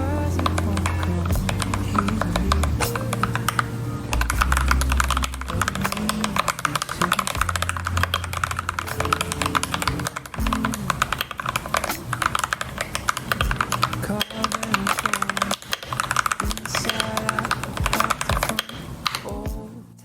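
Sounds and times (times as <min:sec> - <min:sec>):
rapid mechanical keyboard typing: 0:00.0 - 0:19.6.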